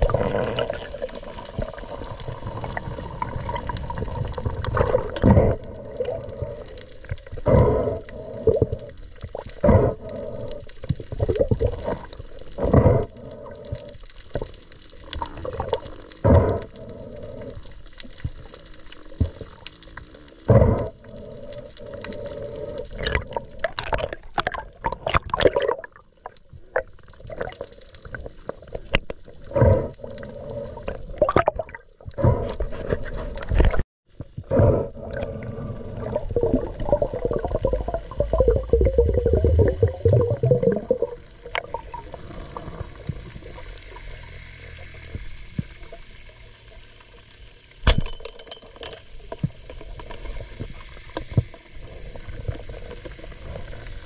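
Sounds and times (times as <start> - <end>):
muffled water sloshing and gurgling: 0.0 - 54.0.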